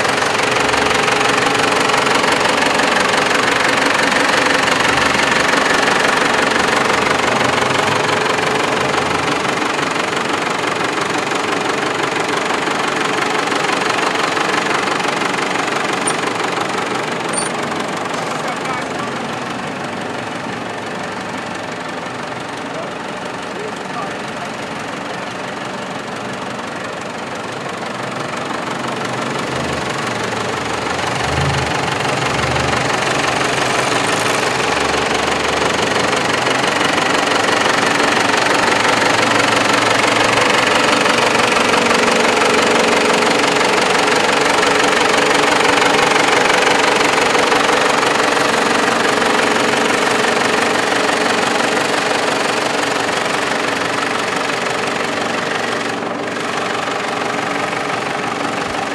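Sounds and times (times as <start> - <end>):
car engine running: 0.0 - 58.9.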